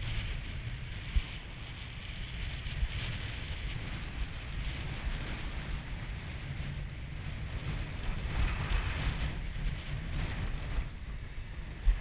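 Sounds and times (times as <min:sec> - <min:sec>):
hiss of wind-driven water chop: 0:00.0 - 0:12.0
wind rumbling on microphone: 0:00.0 - 0:12.0.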